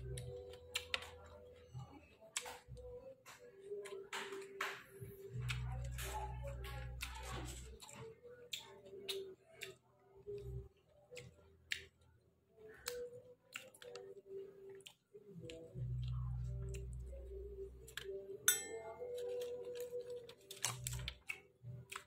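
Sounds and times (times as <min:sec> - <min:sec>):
man chewing with wet smacks: 0:00.1 - 0:22.0.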